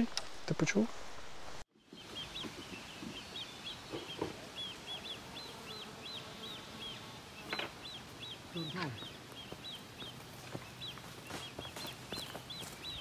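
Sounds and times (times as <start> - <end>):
faint outdoor background noise: 0.0 - 13.0
small bird chirping: 1.8 - 13.0.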